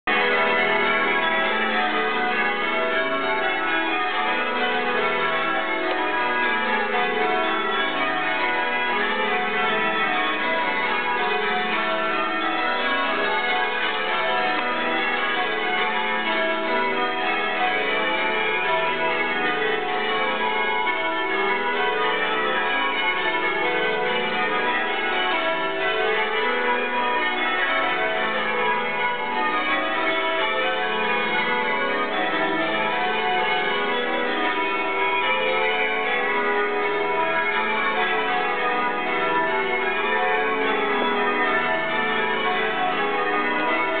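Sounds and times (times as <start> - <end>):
church bells ringing: 0.0 - 44.0.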